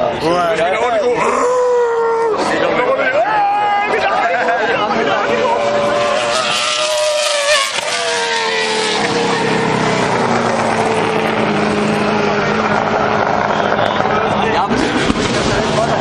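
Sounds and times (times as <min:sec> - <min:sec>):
race car engine droning: 0:02.4 - 0:16.0.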